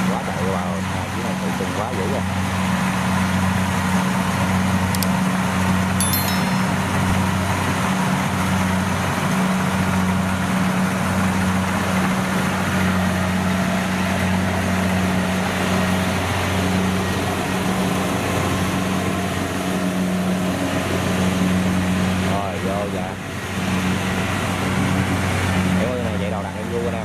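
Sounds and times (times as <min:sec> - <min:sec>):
combine harvester engine drone: 0:00.0 - 0:05.8, 0:08.2 - 0:27.0.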